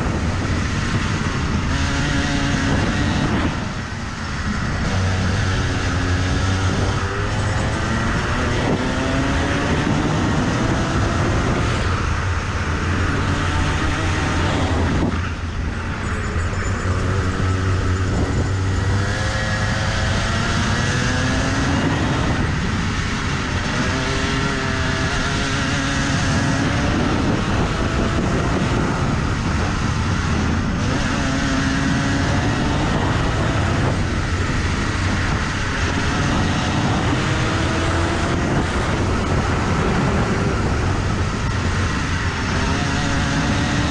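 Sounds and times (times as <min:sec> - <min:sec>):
kart engine at racing speed: 0:00.0 - 0:43.9.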